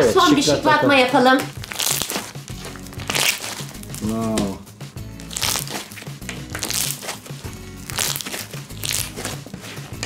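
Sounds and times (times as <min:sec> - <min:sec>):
background music: 0:00.0 - 0:10.0
slime crackling and popping: 0:01.2 - 0:09.5.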